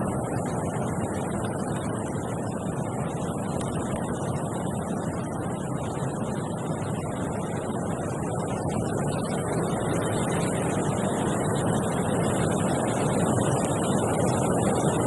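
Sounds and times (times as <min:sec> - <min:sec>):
wind blowing through tree: 0:00.0 - 0:15.0.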